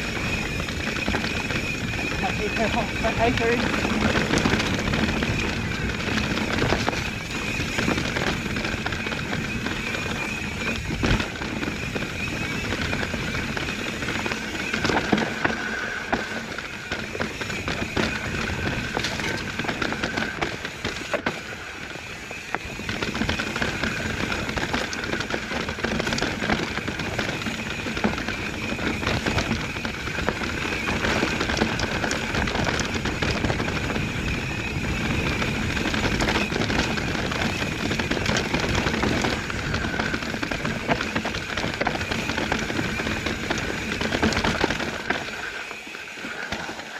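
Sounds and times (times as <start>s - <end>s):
bike clicks and rattles: 0.0s - 46.9s
tyres on dirt trail: 0.0s - 46.9s.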